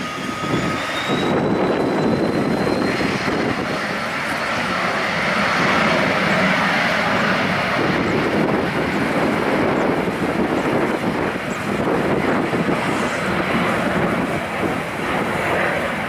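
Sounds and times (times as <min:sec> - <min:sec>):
jet engine roar: 0:00.0 - 0:16.0
jet engine whine: 0:00.0 - 0:16.0.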